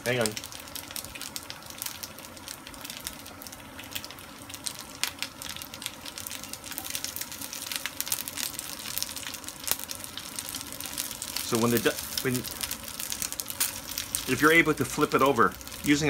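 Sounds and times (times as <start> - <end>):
dumplings sizzling in a skillet: 0.0 - 16.0.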